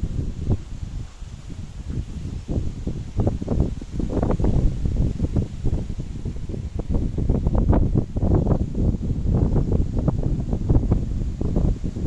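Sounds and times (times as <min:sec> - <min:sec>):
gusty wind on microphone: 0:00.0 - 0:12.0.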